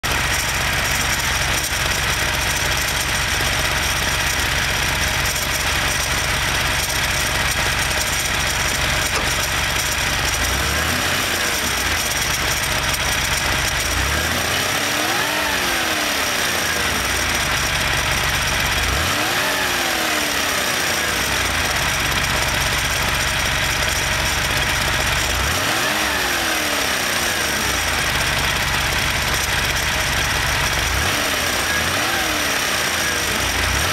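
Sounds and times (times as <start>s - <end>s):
car engine idling and revving: 0.0s - 33.9s
engine ticking: 0.0s - 33.9s.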